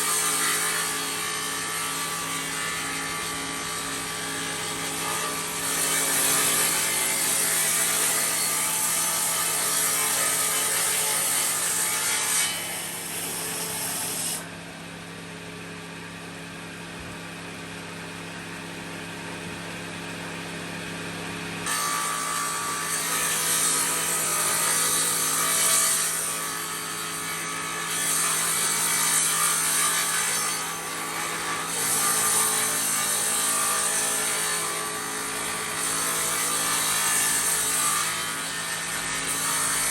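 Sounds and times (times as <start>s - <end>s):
saw rasping through wood: 0.0s - 14.5s, 21.6s - 39.9s.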